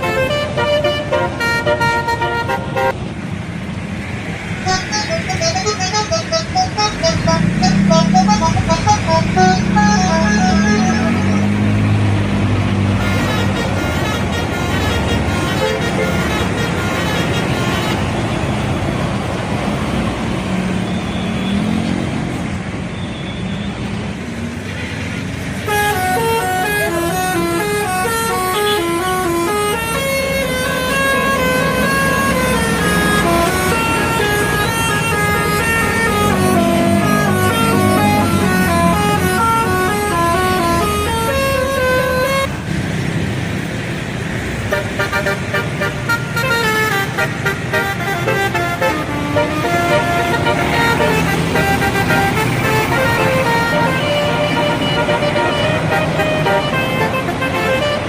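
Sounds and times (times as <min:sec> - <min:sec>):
bus engine passing: 0:00.0 - 0:58.0
road traffic noise: 0:00.0 - 0:58.0.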